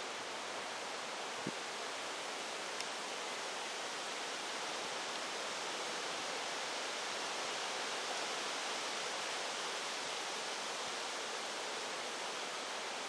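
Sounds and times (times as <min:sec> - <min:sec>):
strong wind through trees: 0:00.0 - 0:13.0.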